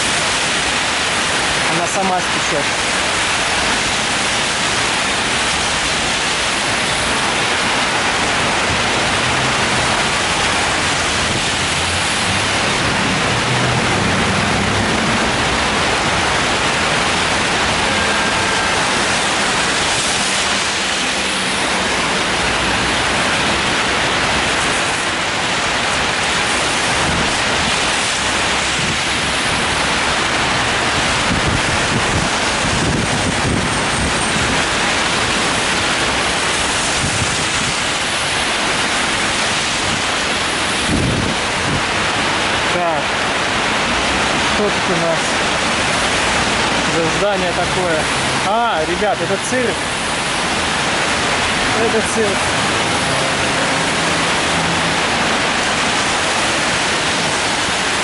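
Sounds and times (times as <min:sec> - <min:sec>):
rain on an umbrella: 0:00.0 - 0:58.0
traffic on wet road: 0:00.0 - 0:58.0.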